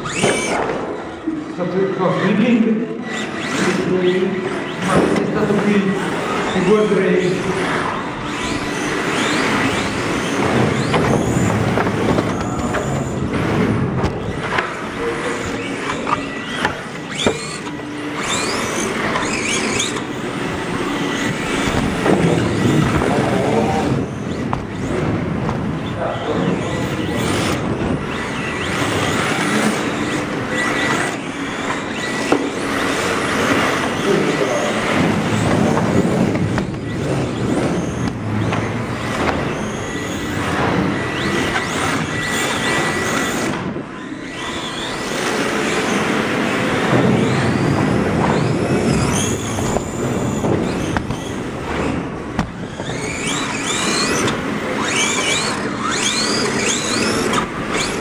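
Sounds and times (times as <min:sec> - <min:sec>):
radio-controlled car motor whirring: 0:00.0 - 0:58.0.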